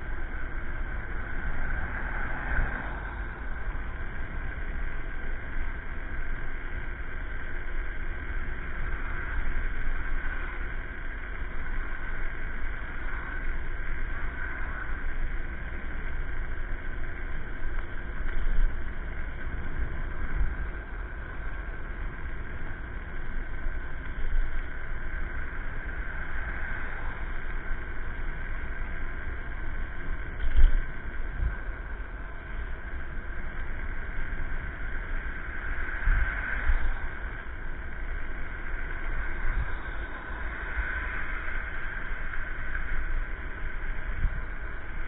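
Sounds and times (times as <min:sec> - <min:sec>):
road noise: 0:00.0 - 0:45.0
wind on microphone: 0:00.0 - 0:45.0.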